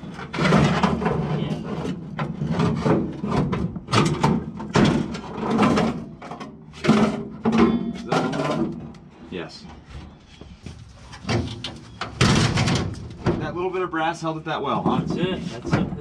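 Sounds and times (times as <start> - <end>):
sheet metal clanking and scraping: 0.0 - 13.8.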